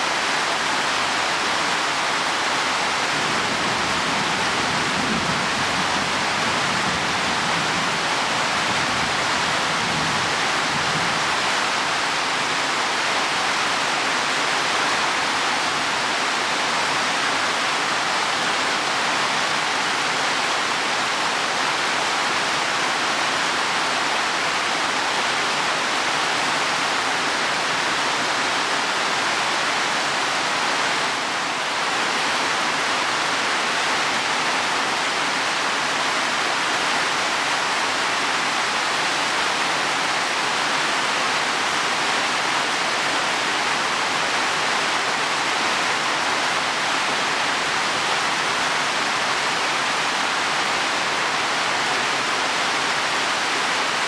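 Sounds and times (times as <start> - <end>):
heavy rain on leaves and soil: 0.0 - 54.0.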